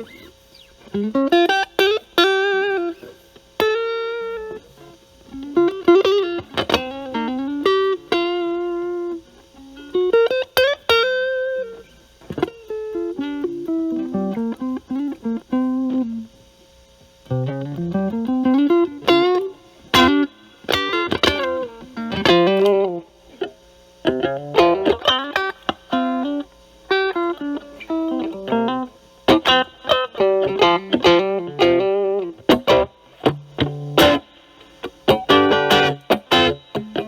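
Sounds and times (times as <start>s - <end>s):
overdriven electric guitar lead: 0.0s - 16.5s, 17.2s - 37.0s.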